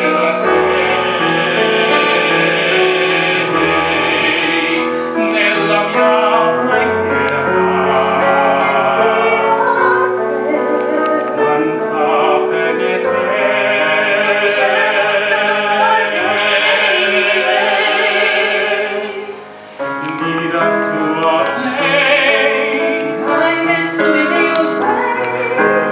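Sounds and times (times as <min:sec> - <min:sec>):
instrumental accompaniment: 0:00.0 - 0:25.9
man and woman singing: 0:00.0 - 0:25.9.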